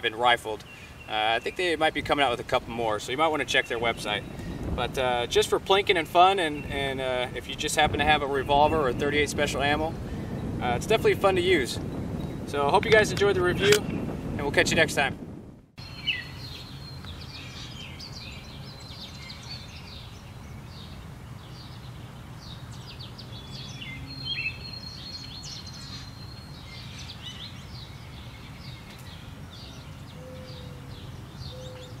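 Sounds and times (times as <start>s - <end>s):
birds chirping and whistling: 0.6s - 2.3s, 3.2s - 5.5s, 6.2s - 10.6s, 11.8s - 14.2s, 15.8s - 32.0s.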